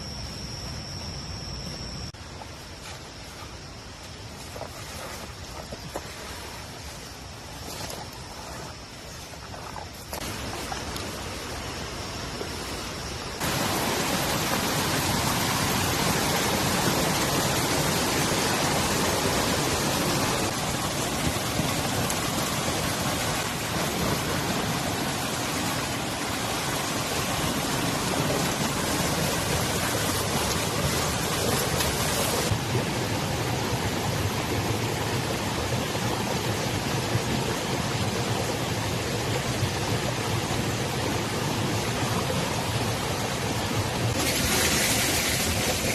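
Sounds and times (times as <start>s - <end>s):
rushing water: 2.2s - 45.9s.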